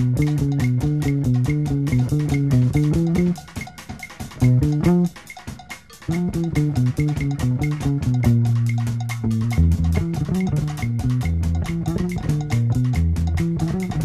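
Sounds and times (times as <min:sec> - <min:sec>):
rock band instrumental: 0:00.0 - 0:14.0.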